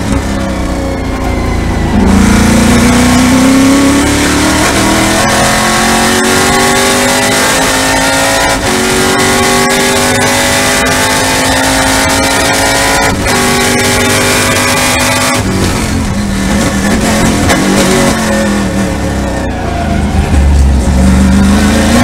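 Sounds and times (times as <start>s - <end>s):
race car engine at full throttle: 0.0s - 22.0s.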